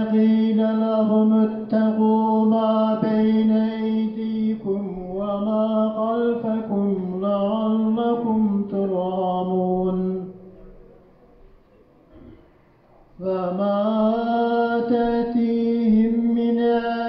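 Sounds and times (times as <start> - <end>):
man chanting into a microphone: 0.0 - 10.9, 13.1 - 17.0.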